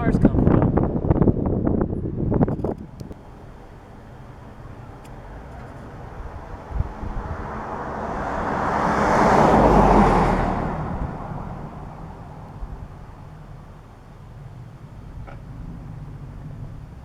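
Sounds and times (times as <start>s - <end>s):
vehicle driving past: 3.1s - 17.0s.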